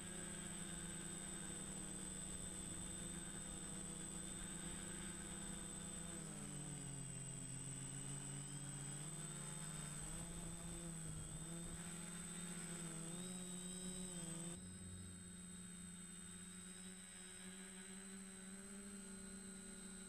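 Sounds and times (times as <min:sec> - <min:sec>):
quadcopter propellers buzzing: 0:00.0 - 0:20.0
thin high whine: 0:00.0 - 0:20.0.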